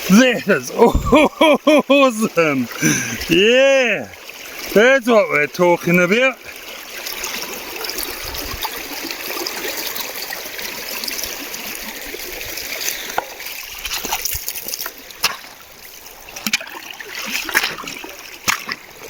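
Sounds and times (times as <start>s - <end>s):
river water running: 0.0s - 19.0s.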